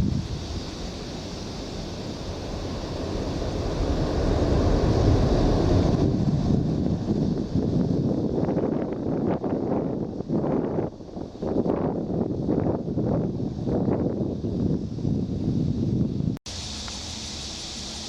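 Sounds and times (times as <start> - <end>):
wind buffeting microphone: 0.0 - 16.4
jet engines roaring: 0.0 - 18.0.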